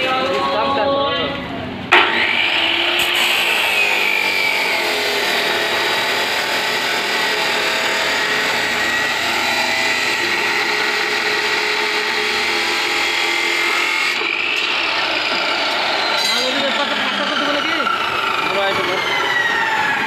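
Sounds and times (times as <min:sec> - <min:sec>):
cut-off saw grinding steel: 0:01.9 - 0:20.0.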